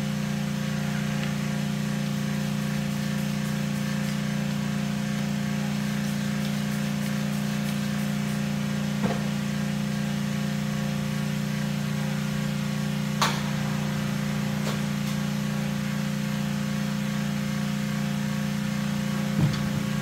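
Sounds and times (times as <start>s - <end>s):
mechanical hum of machinery: 0.0s - 20.0s.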